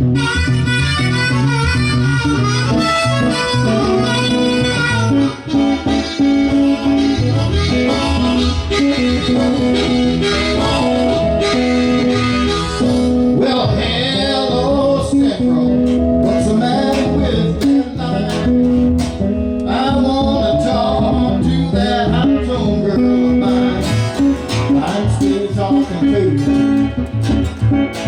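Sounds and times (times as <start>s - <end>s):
harmonica soloing: 0.0s - 24.9s
guitar accompaniment: 0.0s - 28.0s.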